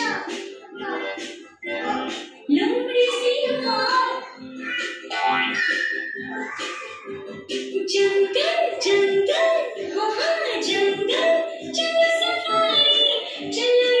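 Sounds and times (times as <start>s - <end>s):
song with singing over beat: 0.0s - 14.0s.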